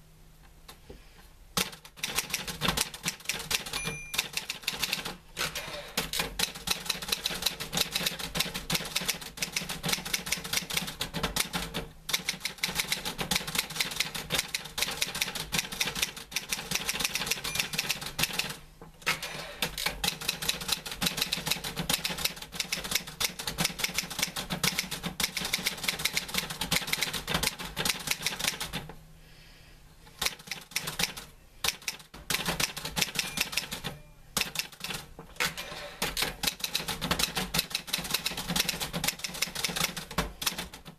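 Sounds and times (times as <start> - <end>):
typewriter typing: 1.6 - 28.9, 30.2 - 40.9.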